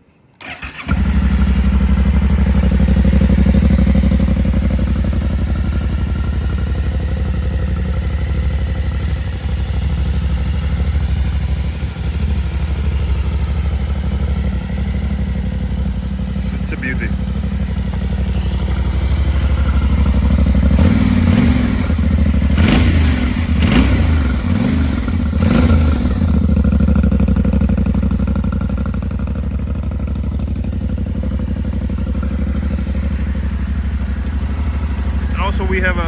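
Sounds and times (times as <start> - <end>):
motorcycle engine idling: 0.4 - 36.0.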